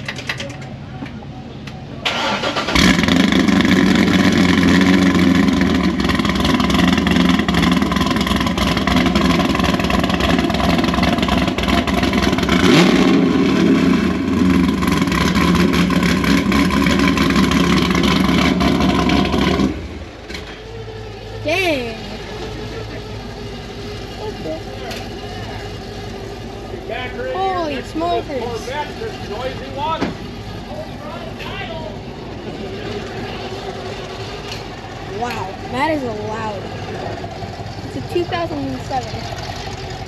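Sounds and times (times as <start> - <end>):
car engine with loud exhaust: 0.0 - 40.0.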